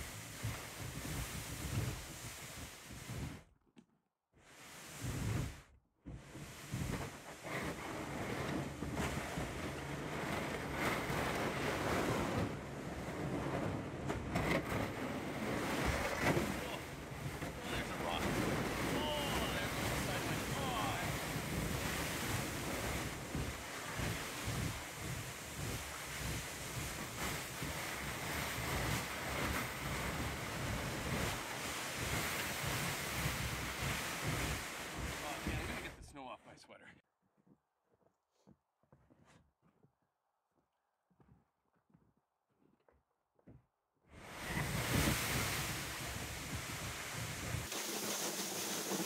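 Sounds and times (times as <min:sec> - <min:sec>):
canoe hull scraping over snow: 0:00.0 - 0:03.5, 0:04.4 - 0:36.1, 0:44.1 - 0:49.0.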